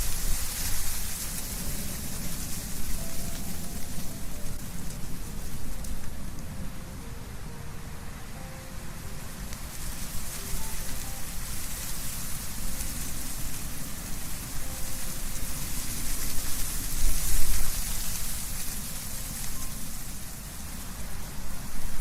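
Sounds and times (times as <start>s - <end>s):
low wind rumble: 0.0s - 22.0s
wind rustling leaves in trees: 0.0s - 22.0s.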